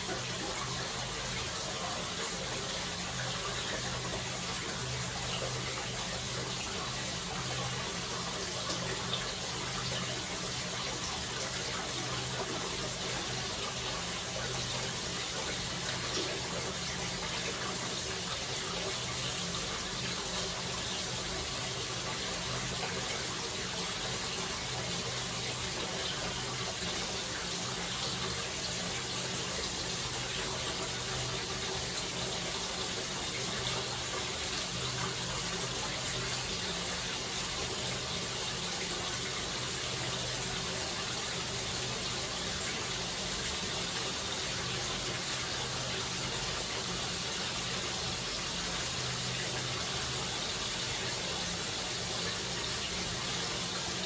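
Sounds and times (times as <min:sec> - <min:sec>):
water running into bathtub: 0:00.0 - 0:54.0.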